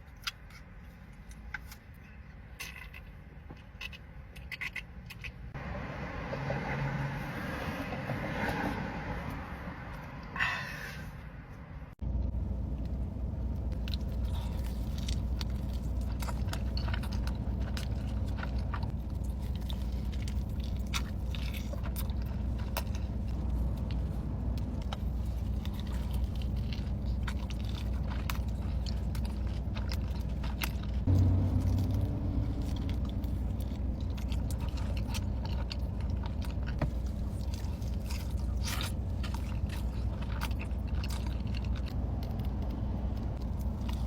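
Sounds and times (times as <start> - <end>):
crunchy chewing: 0.0 - 5.6, 13.7 - 44.0
low hum: 4.6 - 44.0.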